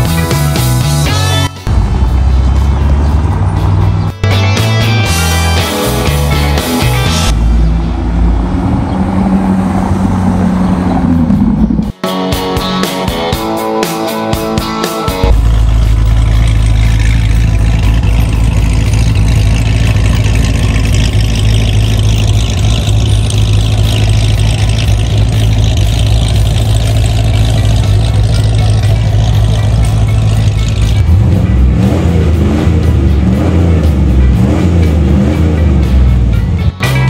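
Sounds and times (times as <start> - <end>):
car engine droning: 0.0 - 12.0, 14.6 - 37.0
engine revving: 0.0 - 12.2, 12.9 - 37.0.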